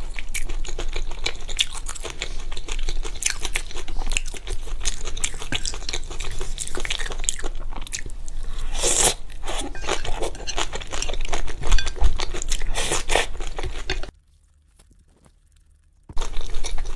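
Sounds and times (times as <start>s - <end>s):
crunching and chewing food: 0.0s - 16.9s.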